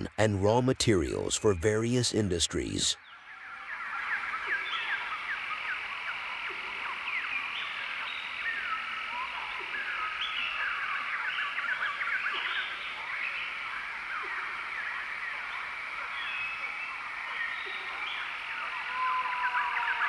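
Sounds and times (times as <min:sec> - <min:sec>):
chorus of animal calls: 0:03.1 - 0:20.0.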